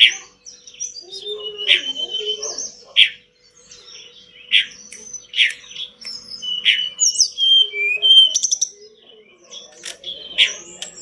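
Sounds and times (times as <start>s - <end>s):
faint steady hum: 0.0s - 11.0s
songbird chip notes and whistles: 0.0s - 11.0s.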